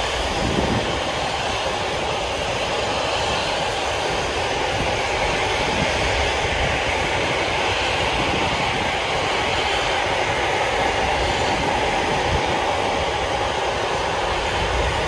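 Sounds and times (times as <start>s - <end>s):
rocket engines roaring: 0.0s - 15.0s.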